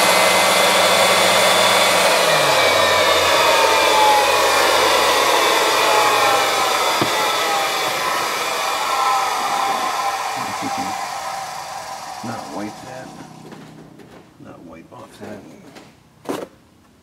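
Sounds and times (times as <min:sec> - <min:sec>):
grinding machine whirring: 0:00.0 - 0:14.3
high whine: 0:00.0 - 0:14.6
low hum: 0:00.0 - 0:15.6.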